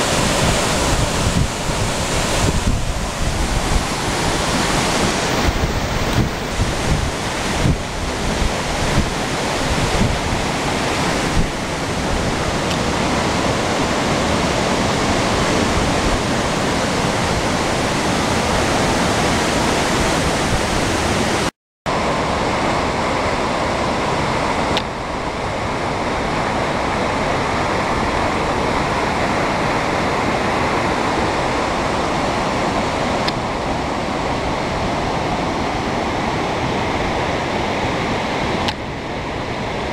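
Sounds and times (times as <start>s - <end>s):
waterfall and creek rushing: 0.0s - 39.9s
wind rumbling on microphone: 0.0s - 39.9s.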